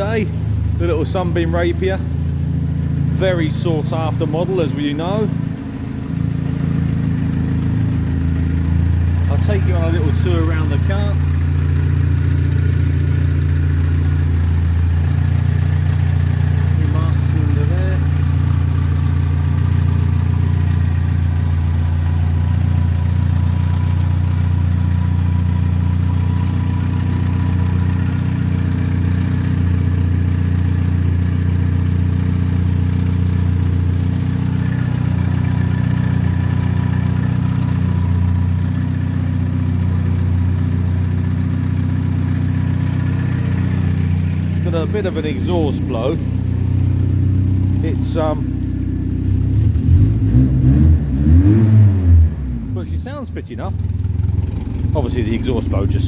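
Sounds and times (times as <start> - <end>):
car engine idling with exhaust leak: 0.0 - 56.0.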